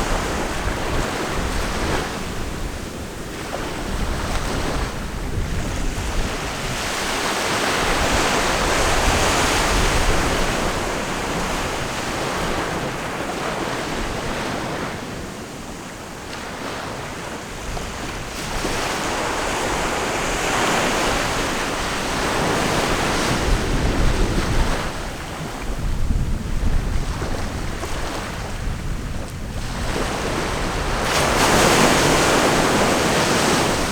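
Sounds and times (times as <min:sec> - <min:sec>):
ocean waves breaking: 0:00.0 - 0:33.9
wind rumble on microphone: 0:00.0 - 0:33.9.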